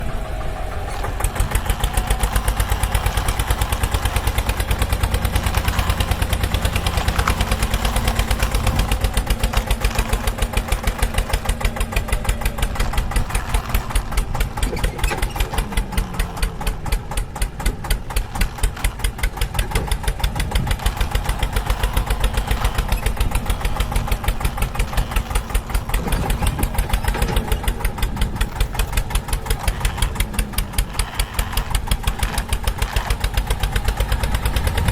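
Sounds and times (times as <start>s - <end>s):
tractor engine chugging: 0.0s - 34.9s.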